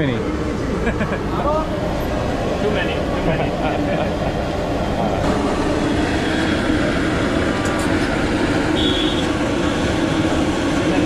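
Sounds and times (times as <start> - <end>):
gas stove burner roaring: 0.4 - 11.0.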